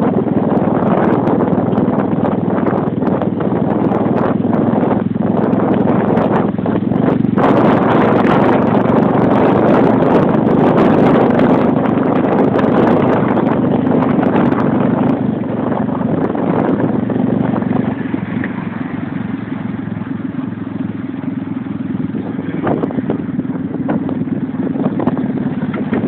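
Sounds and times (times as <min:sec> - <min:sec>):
motorcycle engine at low revs: 0:00.0 - 0:26.0
motorcycle rattles and knocks: 0:00.0 - 0:26.0.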